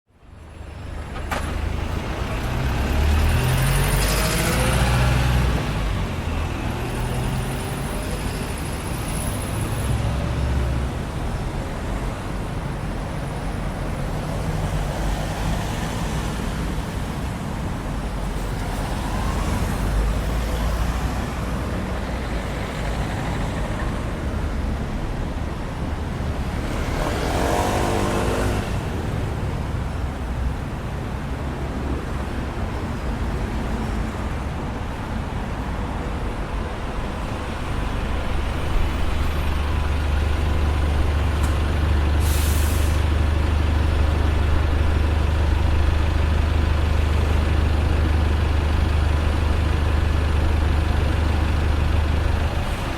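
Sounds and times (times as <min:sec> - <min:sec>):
traffic rumble of engines and tyres: 0:00.1 - 0:52.9
vehicles passing close by: 0:00.2 - 0:52.9.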